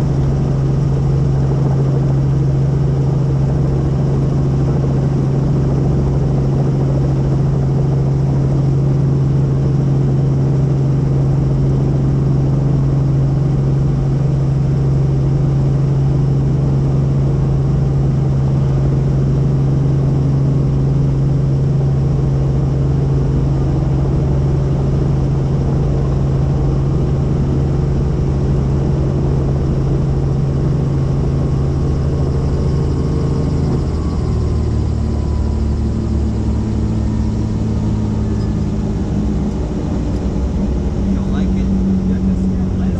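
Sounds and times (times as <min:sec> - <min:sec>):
helicopter rotor and turbine drone: 0:00.0 - 0:42.9.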